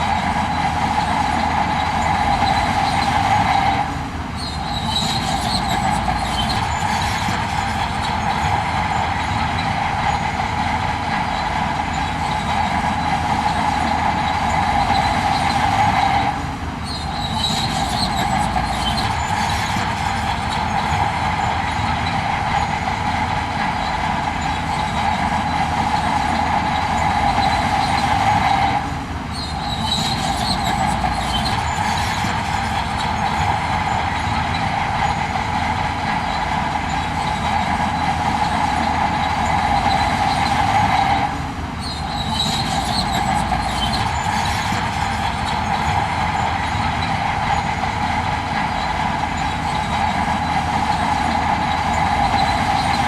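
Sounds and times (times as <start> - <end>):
heavy diesel machinery din: 0.0 - 53.0
metallic squealing: 0.0 - 53.0.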